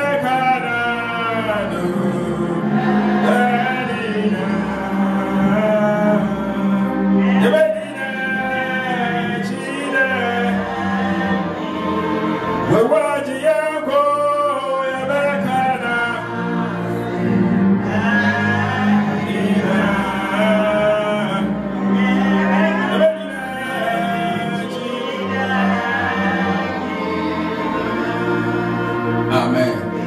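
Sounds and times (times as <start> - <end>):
steady held accompaniment: 0.0 - 30.0
worship singing: 0.0 - 30.0.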